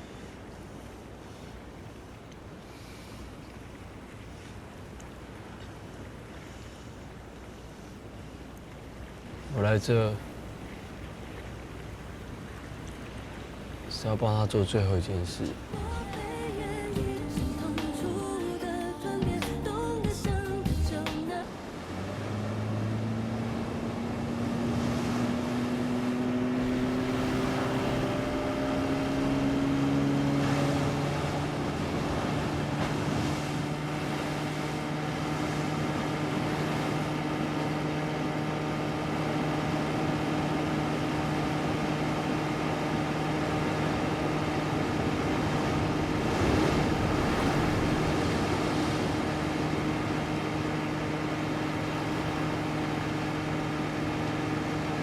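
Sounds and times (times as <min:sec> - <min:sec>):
boat motor droning: 0:00.0 - 0:55.0.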